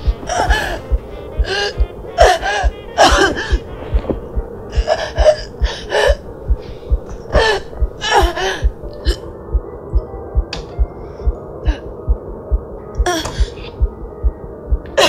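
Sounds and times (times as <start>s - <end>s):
heartbeat thudding: 0.0s - 15.0s.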